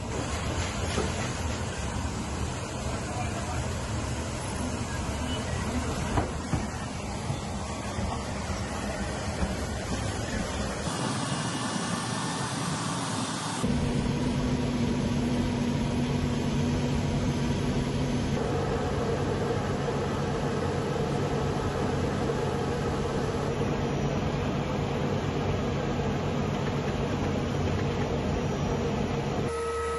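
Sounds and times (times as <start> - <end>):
helicopter engines and rotor: 0.0 - 29.4.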